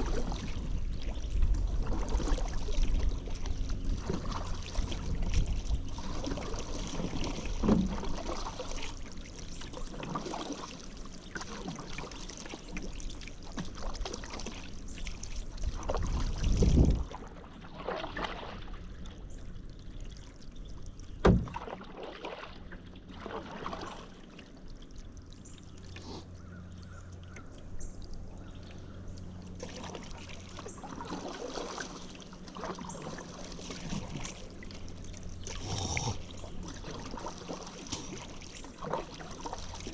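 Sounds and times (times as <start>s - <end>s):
paddle splashing in water: 0.0s - 24.7s, 25.8s - 39.9s
water trickling off paddle: 0.0s - 39.9s.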